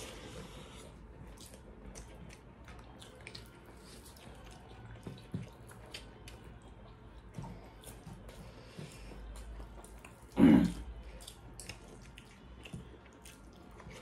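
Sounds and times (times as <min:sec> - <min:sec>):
chewing and lip smacking: 0:00.0 - 0:14.0.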